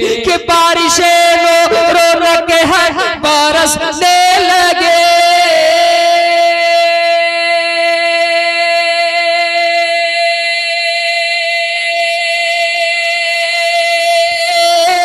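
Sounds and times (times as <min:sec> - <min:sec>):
person singing a long note: 0:00.0 - 0:15.0.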